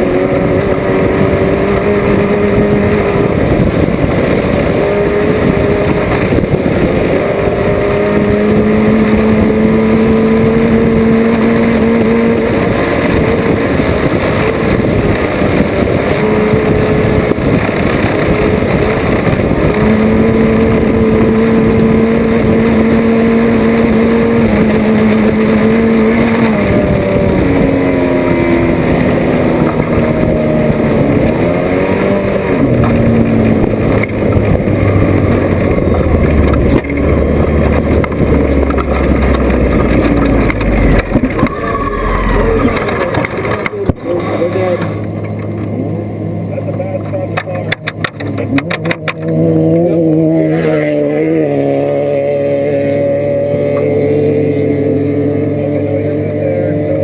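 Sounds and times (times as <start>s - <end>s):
race car engine revving: 0.0s - 57.0s
rough-ground rumble: 0.0s - 57.0s
wind: 0.0s - 57.0s.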